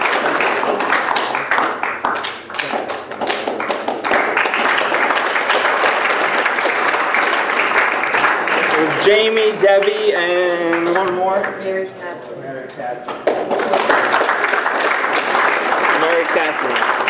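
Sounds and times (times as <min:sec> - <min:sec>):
audience applauding: 0:00.0 - 0:11.3, 0:13.2 - 0:17.0.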